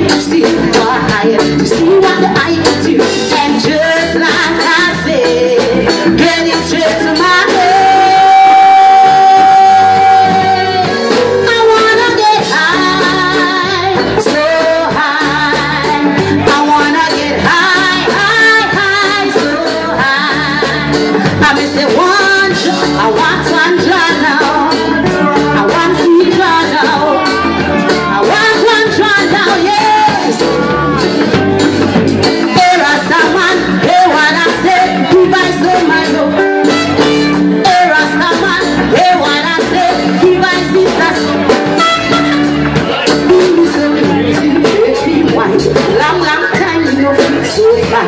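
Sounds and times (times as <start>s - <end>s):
live band playing: 0.0s - 48.0s
woman singing: 0.0s - 48.0s.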